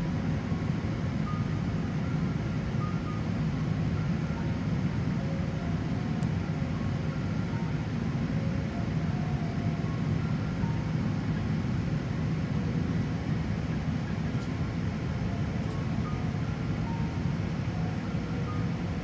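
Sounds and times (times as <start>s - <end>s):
plane cabin rumble: 0.0s - 19.0s.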